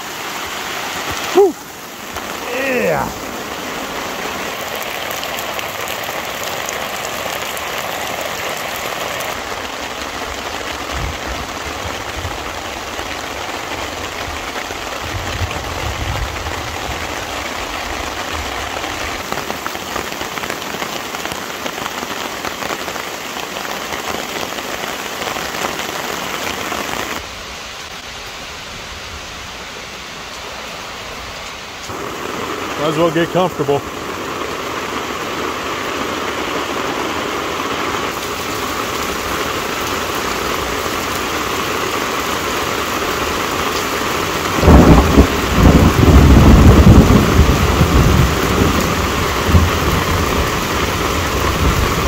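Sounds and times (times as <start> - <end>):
heavy rain on leaf litter: 0.0 - 52.0.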